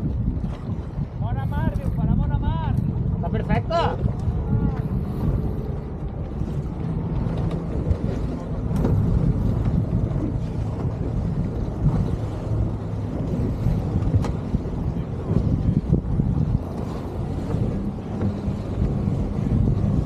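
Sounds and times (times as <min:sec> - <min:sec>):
boat motor humming: 0:00.0 - 0:20.0
wind rumbling on microphone: 0:00.0 - 0:20.0.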